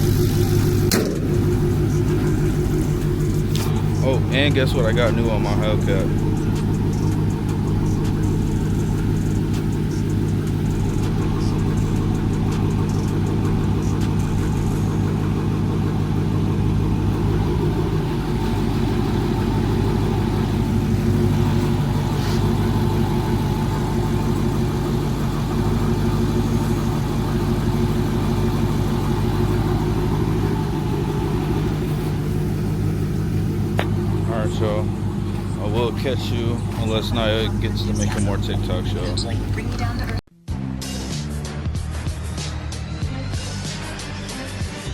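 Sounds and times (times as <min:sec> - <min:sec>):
car engine idling: 0:00.0 - 0:40.3.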